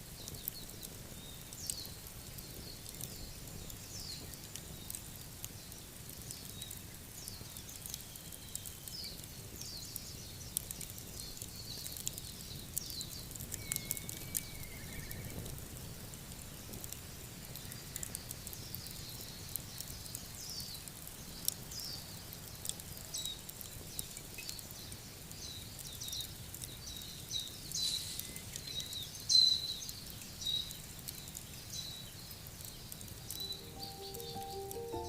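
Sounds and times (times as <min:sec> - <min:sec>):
small birds chirping: 0:00.0 - 0:15.6, 0:16.4 - 0:35.0
soft outdoor hiss: 0:00.0 - 0:35.0.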